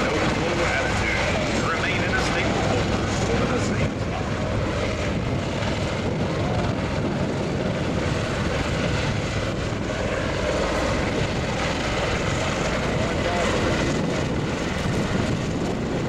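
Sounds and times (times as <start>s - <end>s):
aircraft rotors droning: 0.0s - 16.0s.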